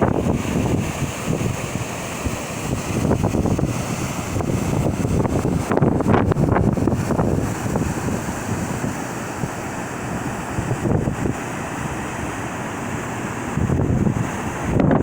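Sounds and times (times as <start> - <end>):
rushing open water: 0.0 - 15.0
wind buffeting microphone: 0.0 - 15.0.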